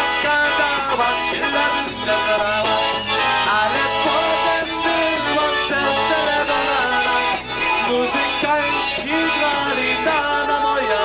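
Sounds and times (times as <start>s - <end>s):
polka band playing: 0.0s - 11.0s.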